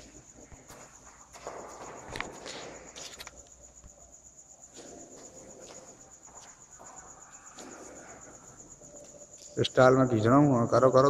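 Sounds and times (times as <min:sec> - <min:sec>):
faint footsteps: 0:00.0 - 0:09.9
crickets chirring: 0:00.0 - 0:11.0.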